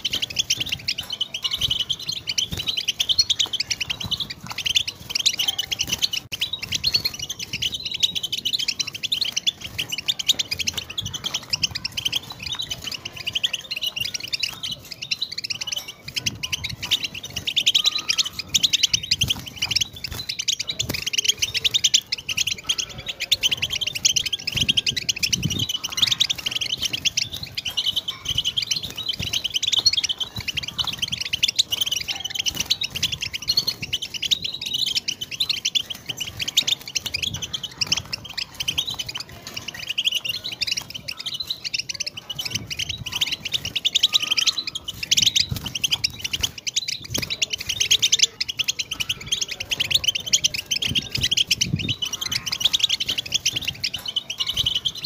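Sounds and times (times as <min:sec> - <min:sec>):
finch twittering song: 0:00.0 - 0:55.0.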